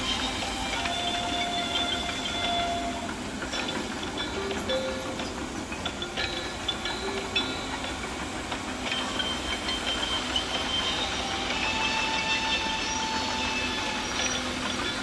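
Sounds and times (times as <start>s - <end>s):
excavator engine running: 0.0s - 15.0s
metallic squeals and clanks: 0.0s - 15.0s.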